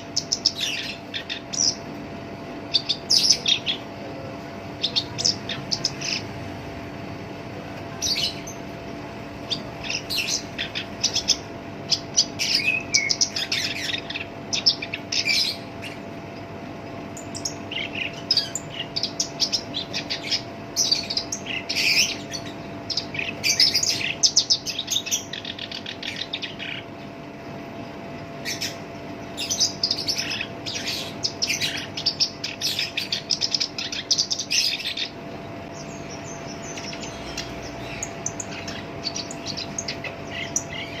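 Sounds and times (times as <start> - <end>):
warbler singing harsh song: 0.0 - 7.0, 7.9 - 41.0
faint steady hum: 0.0 - 41.0.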